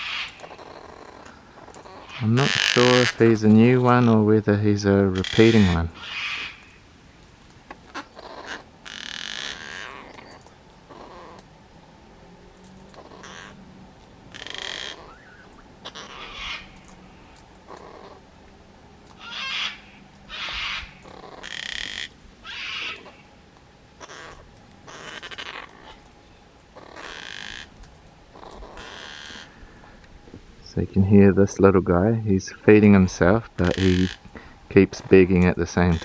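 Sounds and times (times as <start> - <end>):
harsh rasping bird calls: 0.0 - 6.9, 7.7 - 11.6, 12.8 - 18.4, 19.1 - 30.0, 32.5 - 36.0.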